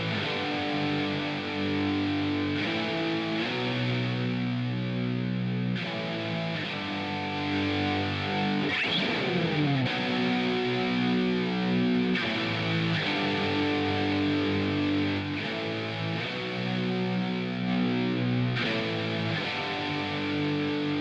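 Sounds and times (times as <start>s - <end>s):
distorted electric guitar chords: 0.0s - 21.0s.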